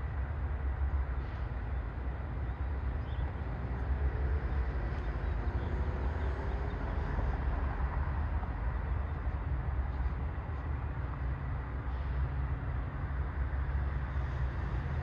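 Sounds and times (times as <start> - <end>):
train approaching rumble: 0.0 - 15.0.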